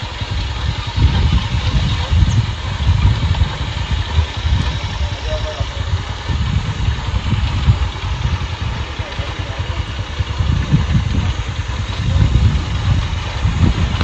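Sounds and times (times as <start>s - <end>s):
motorcycle engine running: 0.0s - 14.0s
wind on microphone: 0.0s - 14.0s.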